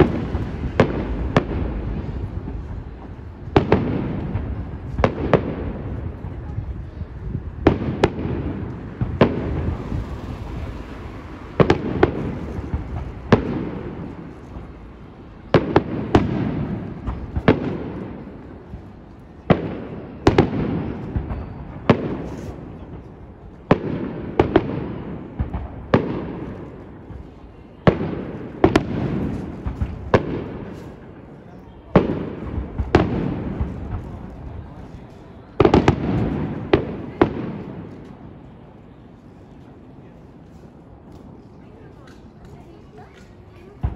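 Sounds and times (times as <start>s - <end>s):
rolling rumble and echo: 0.0s - 43.9s.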